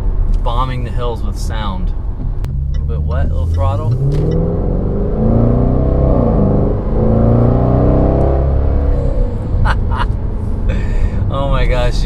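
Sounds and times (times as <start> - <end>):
car engine accelerating: 1.8 - 12.0.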